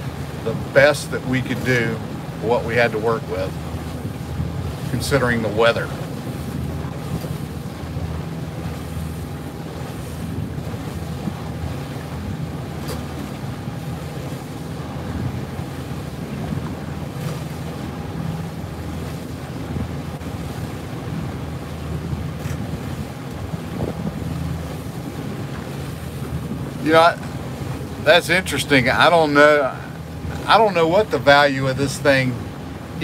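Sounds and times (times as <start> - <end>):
boat engine droning: 0.0 - 33.0
water rushing past: 0.0 - 33.0
wind buffeting microphone: 0.0 - 33.0.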